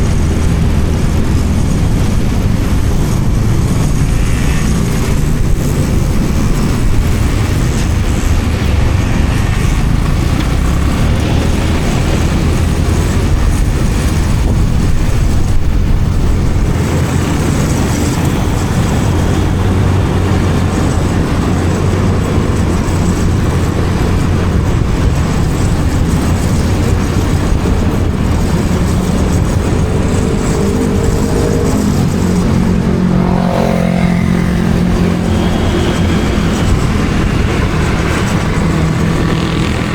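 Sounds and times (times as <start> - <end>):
motorcycle engine: 0.0 - 39.9
wind on microphone: 0.0 - 39.9.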